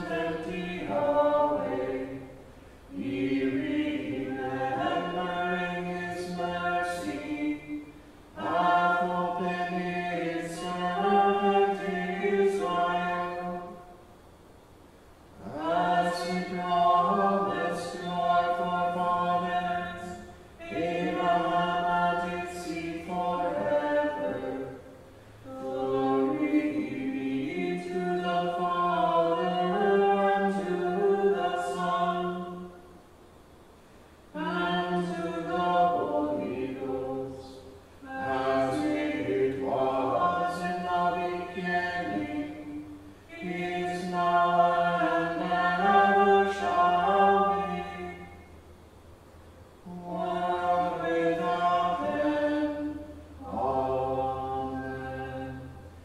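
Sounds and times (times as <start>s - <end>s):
choir chanting unaccompanied: 0.0s - 14.0s, 15.4s - 33.0s, 34.3s - 48.6s, 49.8s - 56.0s.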